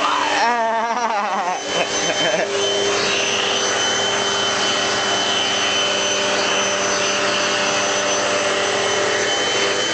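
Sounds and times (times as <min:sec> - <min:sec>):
vacuum cleaner whining: 0:00.0 - 0:09.9.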